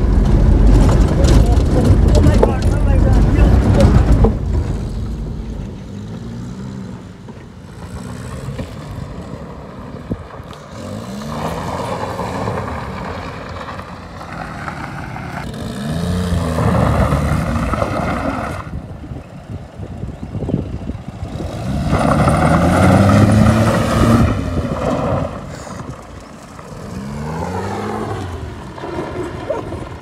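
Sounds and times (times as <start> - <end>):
car engine revving: 0.0 - 18.8, 20.8 - 30.0.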